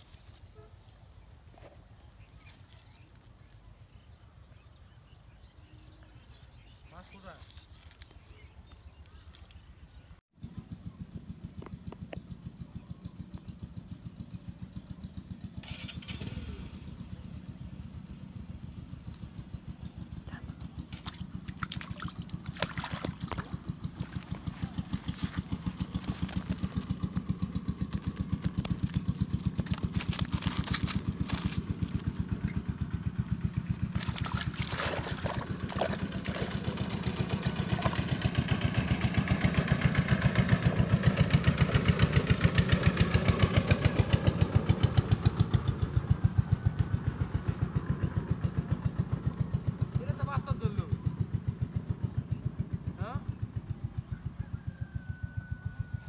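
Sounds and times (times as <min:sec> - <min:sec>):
engine running with rapid thumping: 0:10.4 - 0:56.0.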